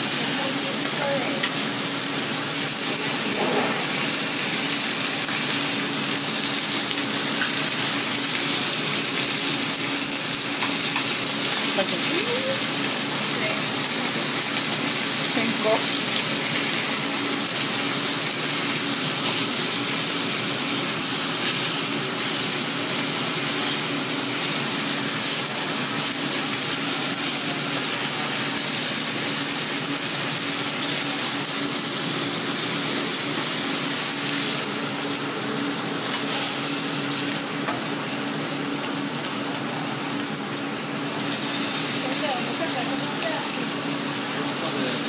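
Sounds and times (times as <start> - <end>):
meat sizzling in a pan: 0.0 - 45.0.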